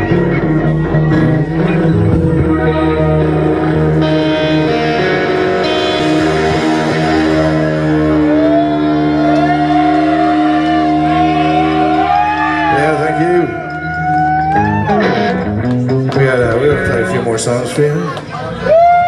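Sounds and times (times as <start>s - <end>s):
electric guitar bending melody: 0.0s - 19.0s
live rock band playing: 0.0s - 19.0s.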